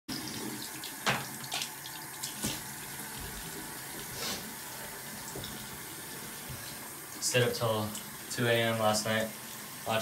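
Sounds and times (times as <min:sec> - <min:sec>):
tap water running into basin: 0:00.1 - 0:10.0.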